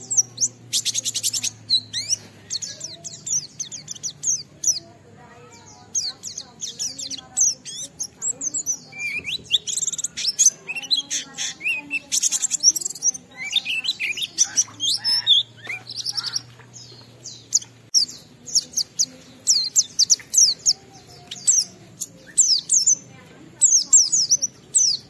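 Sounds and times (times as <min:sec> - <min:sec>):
bird singing chirps and whistles: 0:00.0 - 0:04.8, 0:05.7 - 0:25.0.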